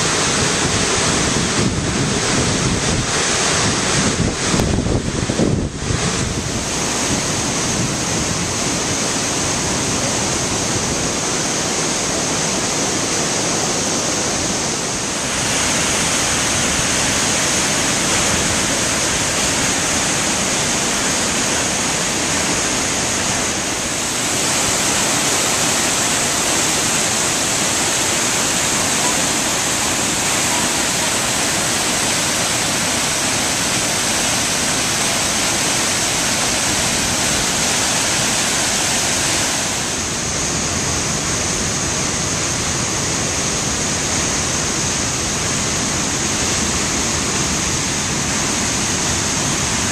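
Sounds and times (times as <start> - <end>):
waterfall and rushing river: 0.0 - 49.9.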